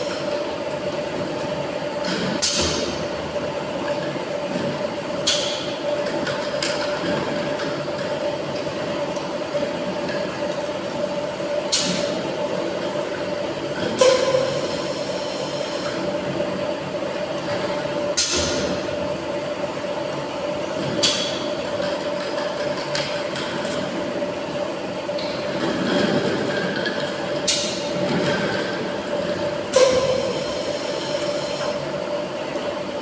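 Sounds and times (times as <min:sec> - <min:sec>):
machine mechanical hum: 0:00.0 - 0:33.0.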